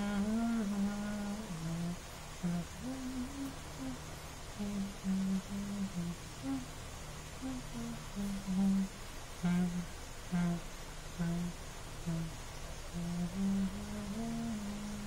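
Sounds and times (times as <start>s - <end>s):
person humming: 0.0s - 15.0s.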